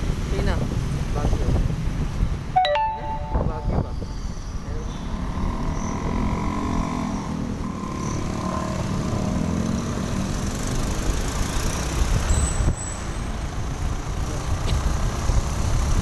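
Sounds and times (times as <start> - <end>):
wind and road noise: 0.0 - 2.6, 3.4 - 16.0.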